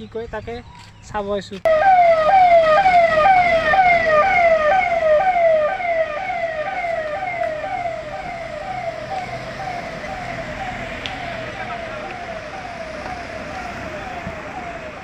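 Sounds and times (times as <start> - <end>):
police siren wailing: 1.7 - 15.0.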